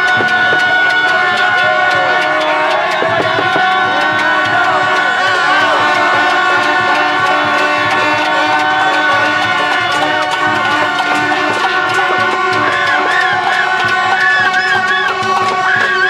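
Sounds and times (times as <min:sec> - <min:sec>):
crowd noise: 0:00.0 - 0:16.0
drumming: 0:00.0 - 0:16.0.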